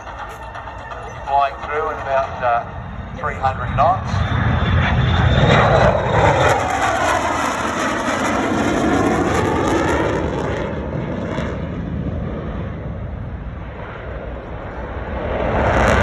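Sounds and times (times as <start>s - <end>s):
jet fighter flying past: 0.0s - 16.0s.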